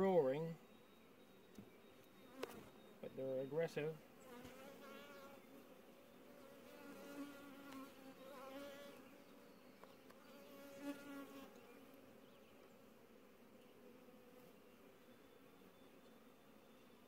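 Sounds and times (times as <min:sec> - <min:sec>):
bees buzzing: 0:00.6 - 0:17.0.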